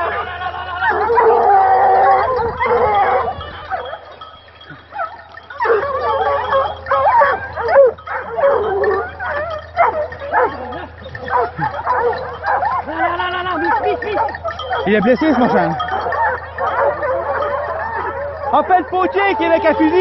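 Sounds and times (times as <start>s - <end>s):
hounds baying and barking: 0.0s - 20.0s.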